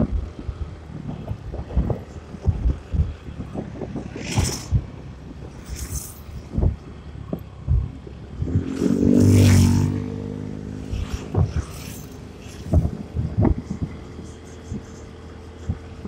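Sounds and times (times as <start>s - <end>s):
wind buffeting microphone: 0.0s - 16.0s
passing vehicle engine: 1.1s - 16.0s.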